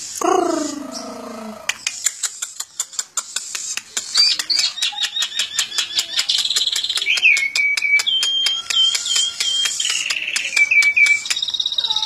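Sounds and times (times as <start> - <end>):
starling singing: 0.2 - 3.2, 3.9 - 12.0.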